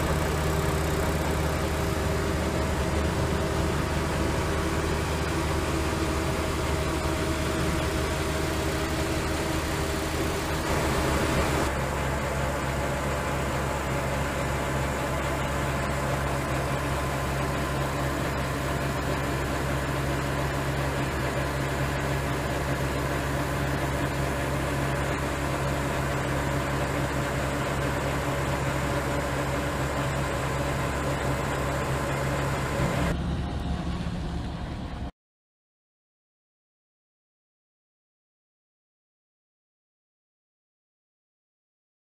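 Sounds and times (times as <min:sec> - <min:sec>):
grain unloader auger humming: 0:00.0 - 0:35.1.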